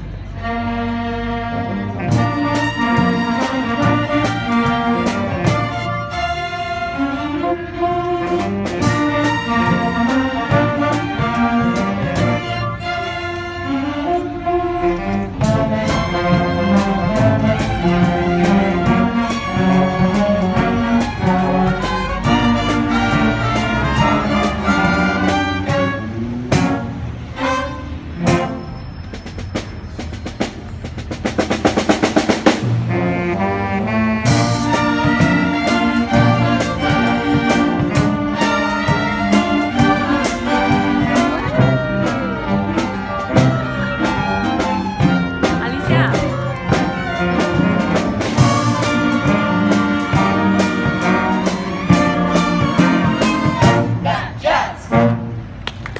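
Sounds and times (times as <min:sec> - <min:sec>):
string orchestra playing: 0:00.0 - 0:28.8, 0:31.7 - 0:55.8.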